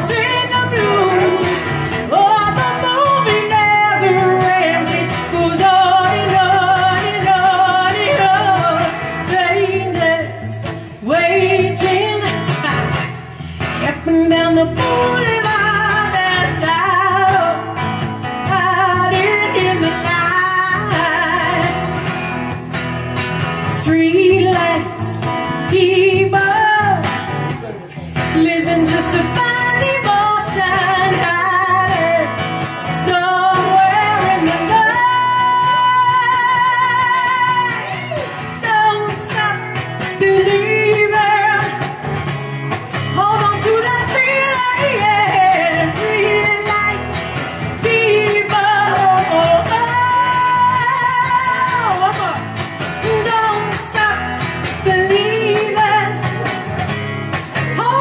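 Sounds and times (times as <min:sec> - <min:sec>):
woman singing: 0:00.0 - 0:22.4, 0:23.4 - 0:27.4, 0:28.2 - 0:42.2, 0:42.9 - 0:56.6, 0:57.6 - 0:58.0
acoustic guitar: 0:00.0 - 0:58.0.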